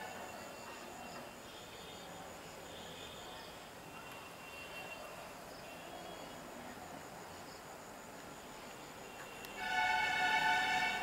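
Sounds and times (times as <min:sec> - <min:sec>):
faint insect chirring: 0:00.0 - 0:09.6.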